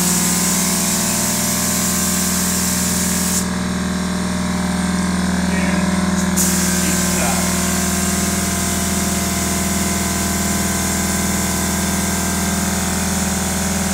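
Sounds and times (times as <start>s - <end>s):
spray gun hissing: 0.0s - 3.5s, 6.1s - 13.9s
motor hum: 0.0s - 13.9s.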